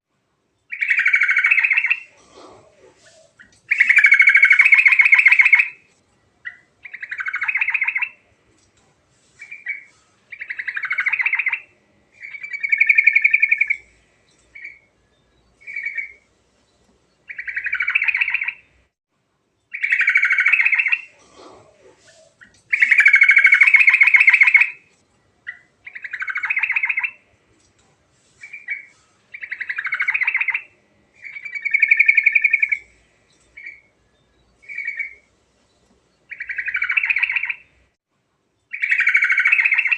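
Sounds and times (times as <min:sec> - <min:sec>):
bird singing: 0:00.6 - 0:02.2, 0:02.9 - 0:08.2, 0:09.4 - 0:18.8, 0:19.6 - 0:21.2, 0:22.1 - 0:27.3, 0:28.4 - 0:37.8, 0:38.6 - 0:39.9.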